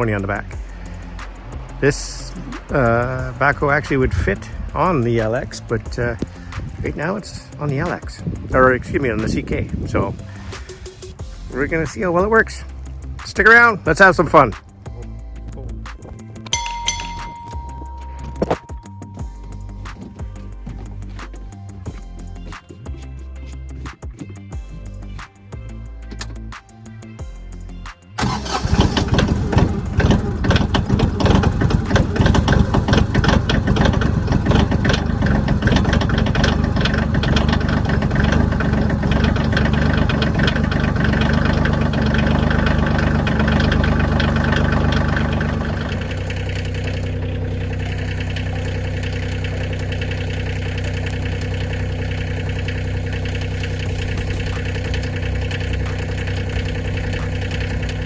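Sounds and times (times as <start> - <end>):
tractor diesel engine clattering: 0.0 - 25.3, 28.2 - 58.0.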